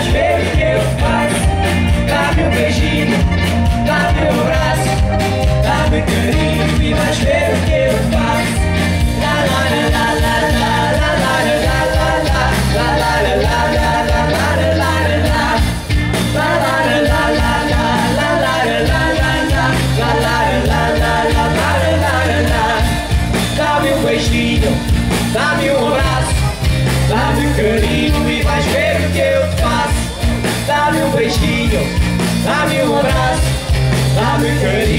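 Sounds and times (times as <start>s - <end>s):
bass line: 0.0s - 34.9s
drums: 0.0s - 34.9s
electric guitars: 0.0s - 34.9s
keyboards: 0.0s - 34.9s.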